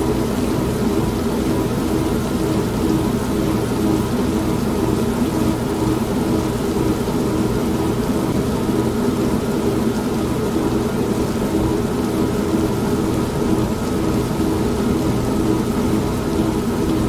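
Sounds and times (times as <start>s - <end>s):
rain: 0.0s - 17.0s
washing machine humming: 0.0s - 17.0s.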